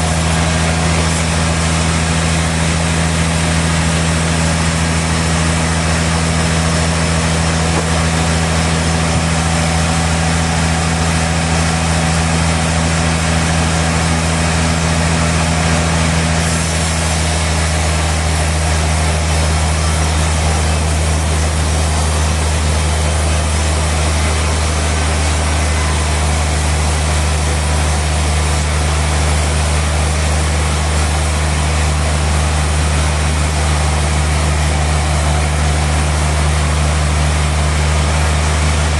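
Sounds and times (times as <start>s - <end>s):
sawmill engine drone: 0.0s - 38.9s.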